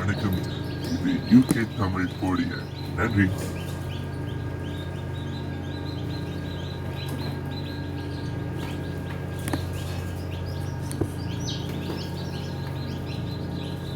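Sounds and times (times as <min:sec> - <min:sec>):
chicks peeping: 0:00.0 - 0:13.9
steady low hum: 0:00.0 - 0:13.9.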